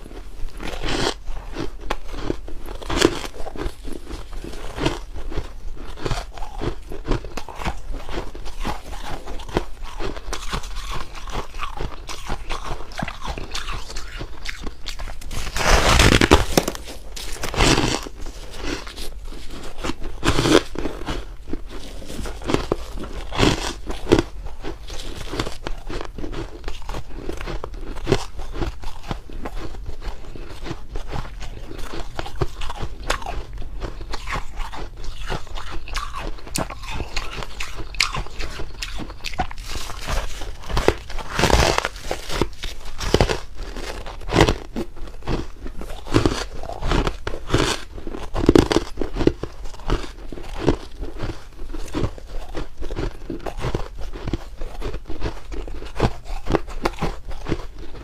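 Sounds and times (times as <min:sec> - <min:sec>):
ice crunching between teeth: 0:00.0 - 0:58.0.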